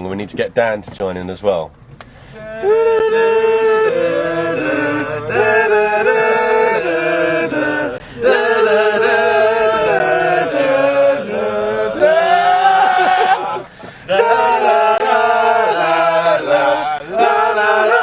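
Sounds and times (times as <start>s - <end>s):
group singing without instruments: 2.3s - 18.0s.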